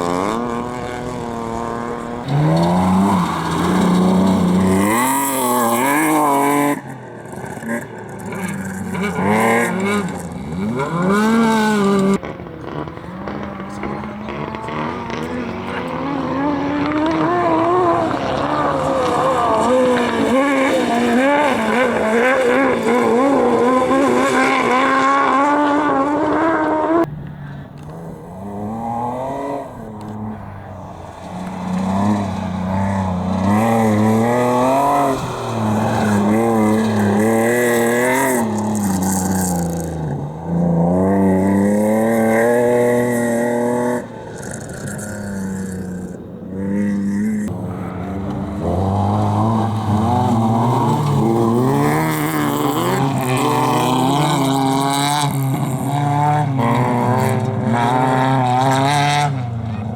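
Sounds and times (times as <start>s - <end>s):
engine revving up and falling back: 0.0s - 59.9s
vehicle engine at high revs: 0.0s - 59.9s.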